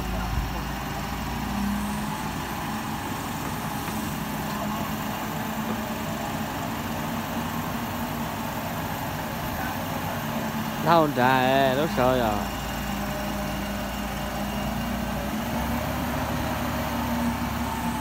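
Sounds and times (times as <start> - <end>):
crane engine droning: 0.0 - 18.0.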